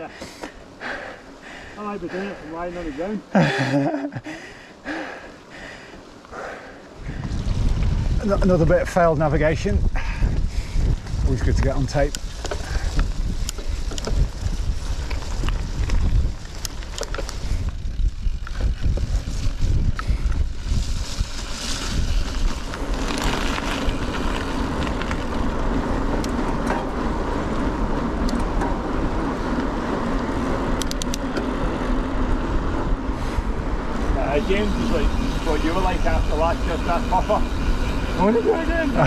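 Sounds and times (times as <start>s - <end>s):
bike rattling and clicking: 0.0s - 39.0s
tyres humming on tarmac: 0.0s - 39.0s
wind buffeting microphone: 6.9s - 39.0s.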